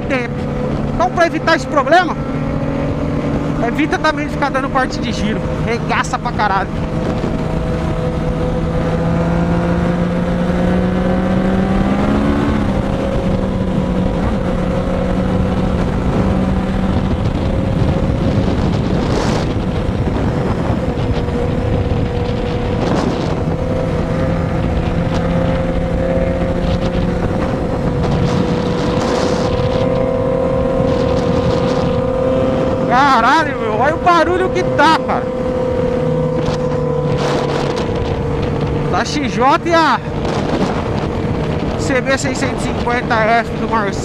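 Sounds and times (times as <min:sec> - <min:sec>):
motorcycle engines accelerating: 0:00.0 - 0:44.0
wind noise on microphone: 0:00.0 - 0:44.0.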